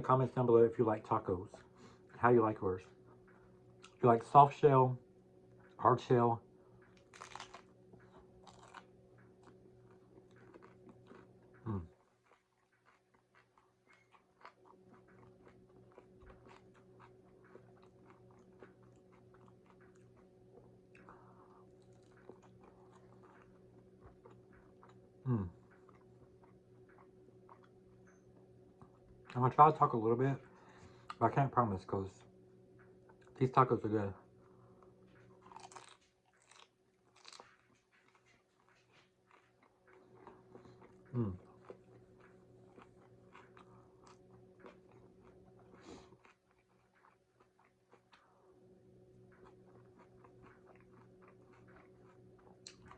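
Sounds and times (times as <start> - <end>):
chewing crunchy taco: 0.0 - 52.9
low steady hum: 0.0 - 52.9.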